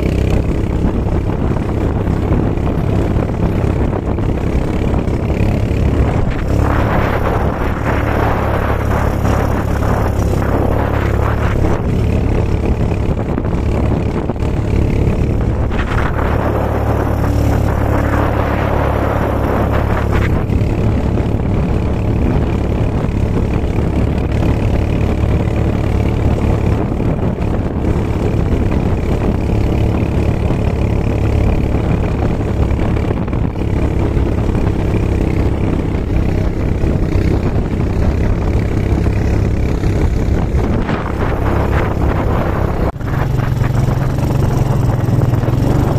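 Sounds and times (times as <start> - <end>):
rushing noise: 0.0 - 26.8, 34.8 - 45.9
quad bike engine droning: 0.0 - 45.9.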